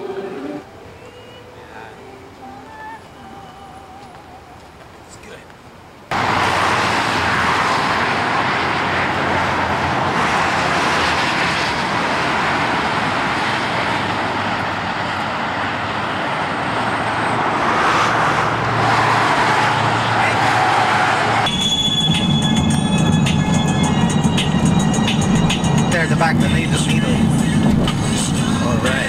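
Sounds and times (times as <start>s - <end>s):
freeway traffic roar: 0.0s - 29.0s.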